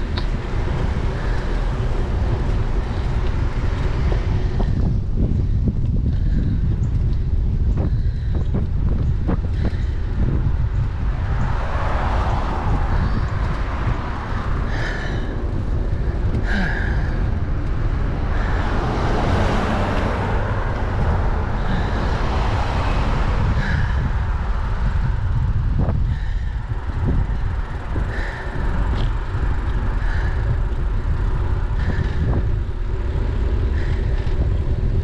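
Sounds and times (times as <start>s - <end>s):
tyre and road noise: 0.0s - 35.0s
wind buffeting microphone: 0.0s - 35.0s.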